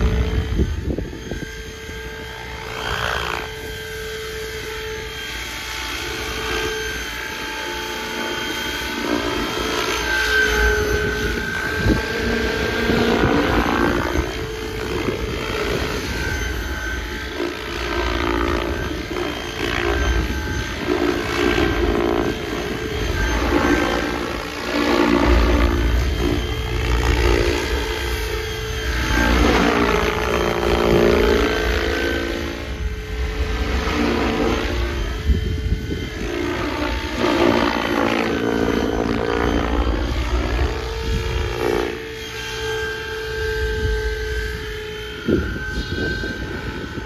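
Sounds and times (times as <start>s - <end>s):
rc helicopter rotor whine: 0.0s - 47.0s.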